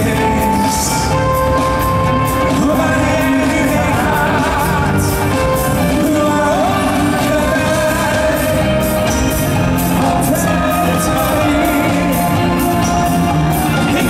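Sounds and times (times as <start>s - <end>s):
live band with drums: 0.0s - 14.0s
man singing into microphone: 0.0s - 14.0s.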